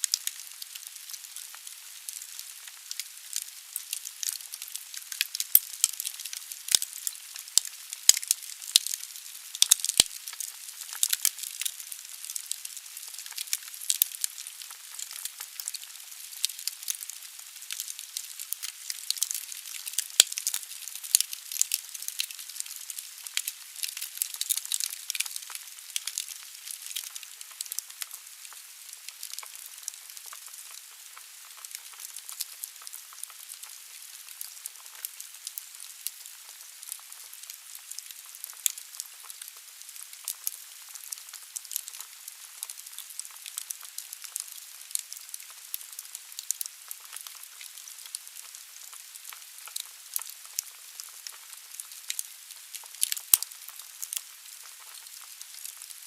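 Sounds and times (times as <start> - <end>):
burning logs crackling and popping: 0.0 - 56.0.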